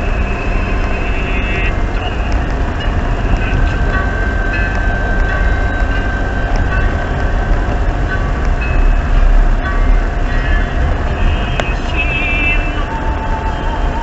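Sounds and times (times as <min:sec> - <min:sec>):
high-pitched squeal: 0:00.0 - 0:14.0
low rumble of moving vehicle: 0:00.0 - 0:14.0.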